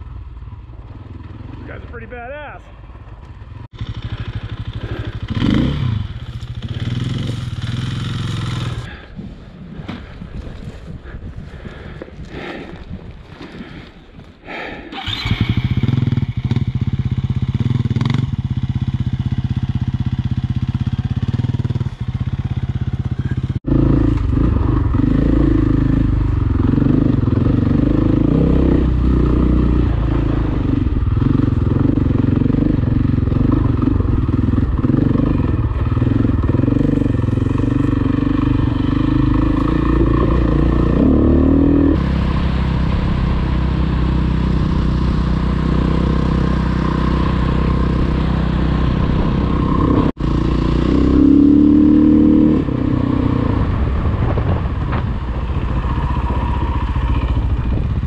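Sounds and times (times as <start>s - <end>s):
dirt bike engine revving: 0.8s - 9.0s, 14.9s - 54.4s.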